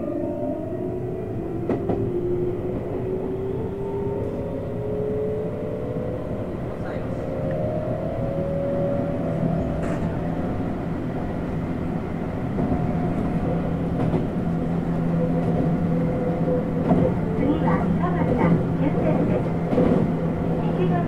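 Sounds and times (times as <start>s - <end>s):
train wheels rumbling on rail: 0.8s - 21.0s.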